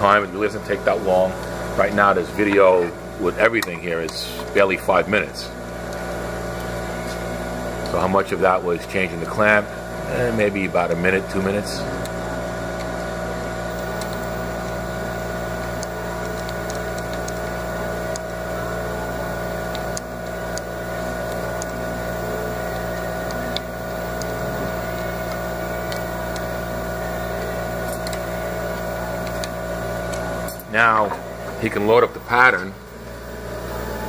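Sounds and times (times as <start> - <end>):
steady machinery hum: 0.0 - 34.0.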